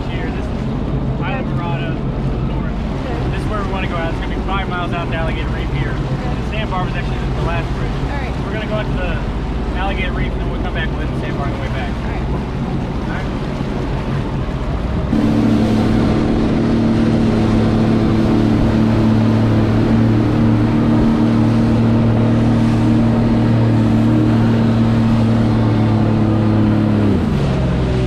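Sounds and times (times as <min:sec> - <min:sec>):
jet ski engine running: 0:00.0 - 0:28.0
rushing water: 0:00.0 - 0:28.0
wind: 0:00.0 - 0:28.0.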